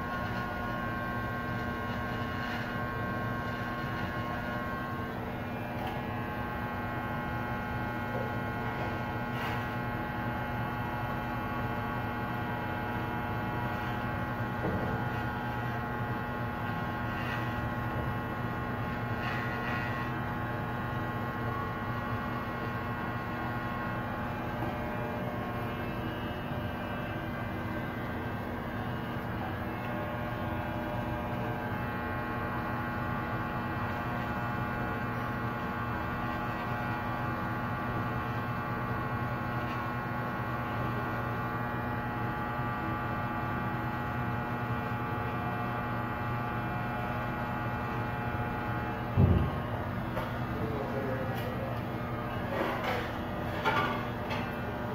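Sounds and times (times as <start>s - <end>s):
electric hair clippers buzzing: 0.0s - 54.9s.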